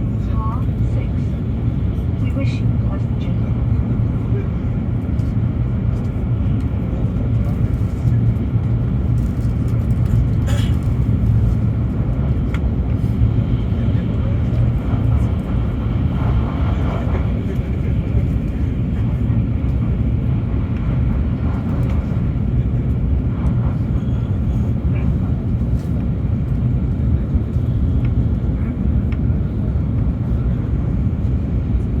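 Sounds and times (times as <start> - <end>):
high-speed train running: 0.0 - 32.0.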